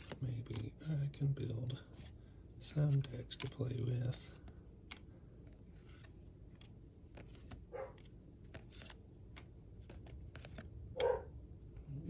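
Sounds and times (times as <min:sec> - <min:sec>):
trading cards being flipped through: 0:00.0 - 0:00.9, 0:01.5 - 0:11.2.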